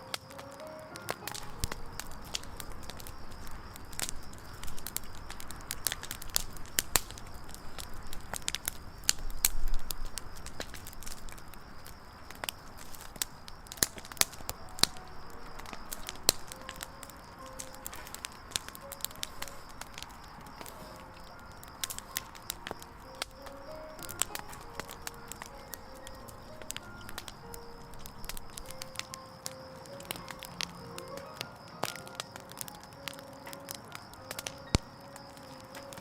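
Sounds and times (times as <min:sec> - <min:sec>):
firewood crackling and popping: 0:00.0 - 0:36.0
low steady hiss: 0:00.0 - 0:36.0.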